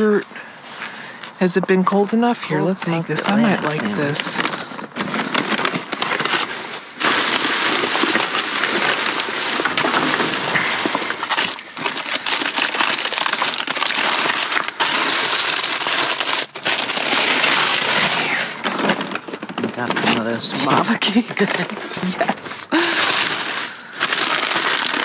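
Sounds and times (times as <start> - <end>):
plastic bags rustling: 0.0 - 25.0.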